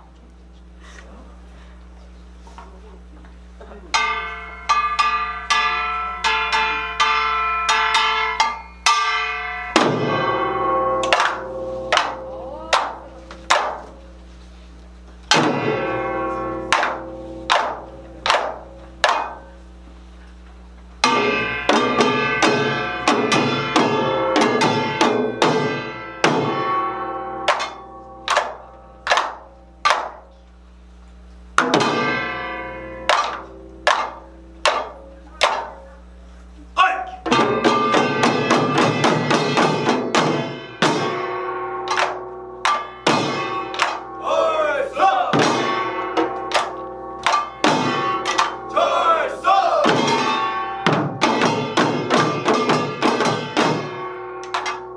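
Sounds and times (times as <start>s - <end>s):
sharp percussion strikes: 3.9s - 14.2s, 15.2s - 19.8s, 20.8s - 30.4s, 31.2s - 36.2s, 36.8s - 54.9s
small brass gong strokes: 3.9s - 36.6s, 37.2s - 54.9s.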